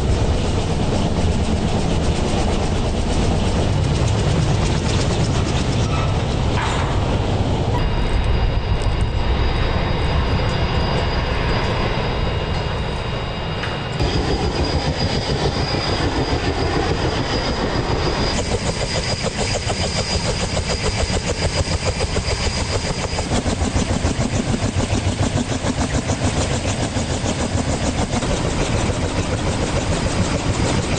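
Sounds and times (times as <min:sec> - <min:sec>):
helicopter rotor blade chop: 0:00.0 - 0:30.9
helicopter turbine whine: 0:00.0 - 0:30.9.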